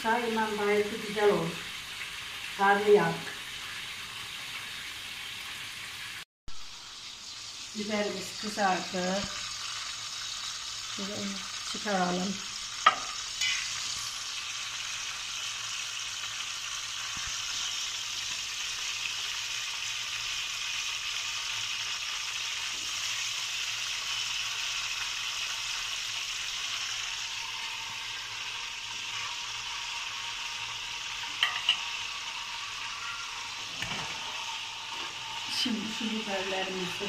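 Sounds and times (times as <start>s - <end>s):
peppers sizzling in hot oil: 0.0s - 37.0s.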